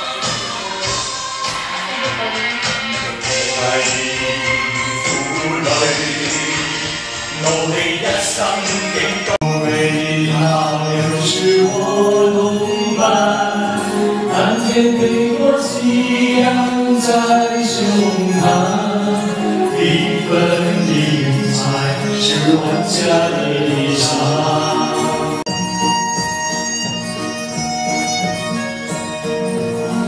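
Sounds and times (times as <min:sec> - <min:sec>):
karaoke backing track: 0:00.0 - 0:30.0
man singing karaoke: 0:01.8 - 0:26.1.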